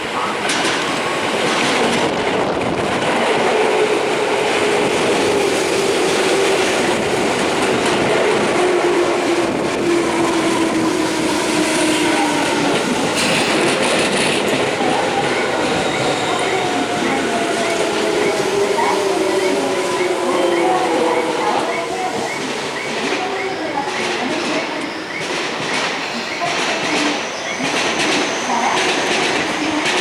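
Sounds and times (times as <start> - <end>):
train wheels clacking: 0.1 - 30.0.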